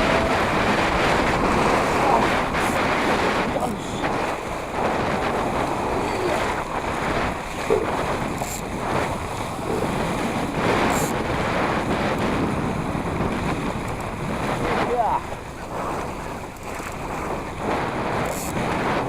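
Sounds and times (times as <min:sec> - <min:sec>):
water splashing against hull: 0:00.0 - 0:19.0
wind buffeting microphone: 0:00.0 - 0:19.0.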